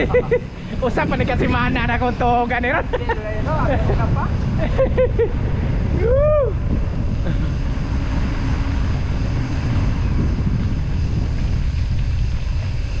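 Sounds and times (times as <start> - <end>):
tyres rolling on concrete road: 0.0 - 13.0
wind buffeting microphone: 0.0 - 13.0.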